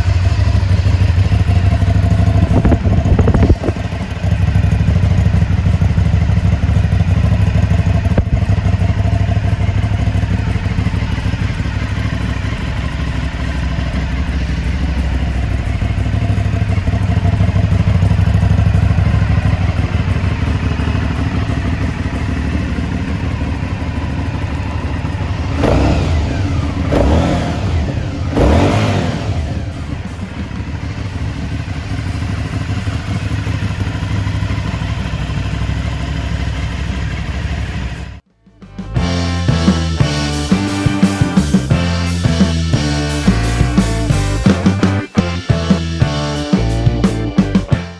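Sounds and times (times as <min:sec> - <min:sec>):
motorcycle engine idling: 0:00.0 - 0:47.9
motorcycle throttle blips: 0:00.0 - 0:47.9.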